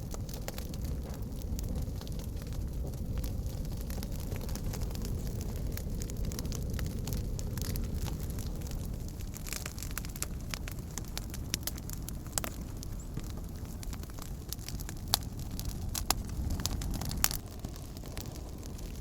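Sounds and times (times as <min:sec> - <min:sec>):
campfire crackling and popping: 0:00.0 - 0:19.0
low rumble of fire: 0:00.0 - 0:19.0.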